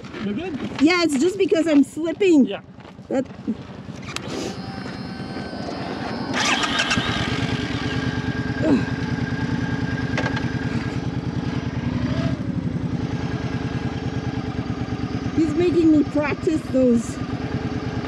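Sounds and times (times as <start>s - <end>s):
motorcycle engine starting and idling: 0.0s - 18.0s.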